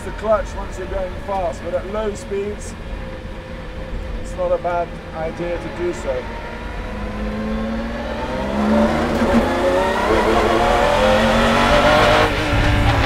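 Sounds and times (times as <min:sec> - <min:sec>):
racing engine accelerating: 0:00.0 - 0:13.0.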